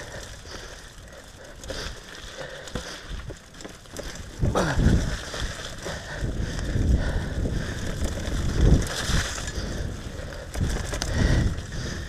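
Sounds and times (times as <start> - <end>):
bike frame and chain rattling: 0.0 - 12.0
bike tyres crunching leaves and dirt: 0.0 - 12.0.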